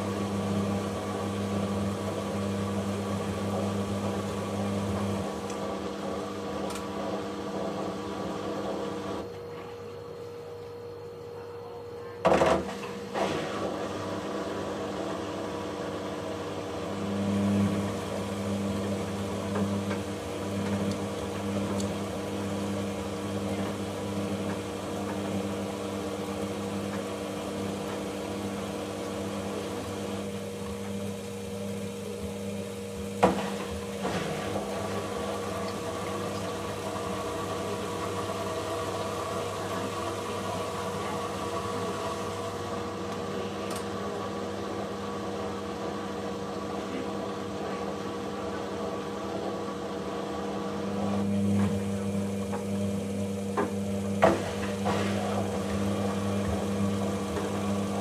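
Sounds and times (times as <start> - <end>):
washing machine motor humming: 0.0 - 58.0.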